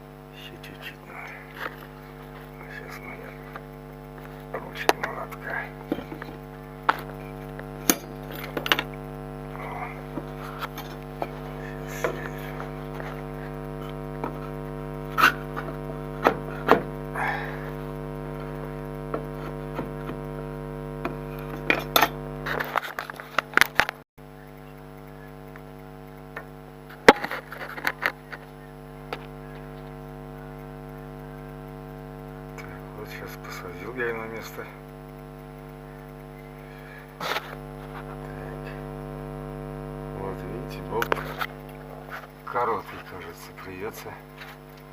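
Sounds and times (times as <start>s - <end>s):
electrical hum: 0.0s - 44.9s.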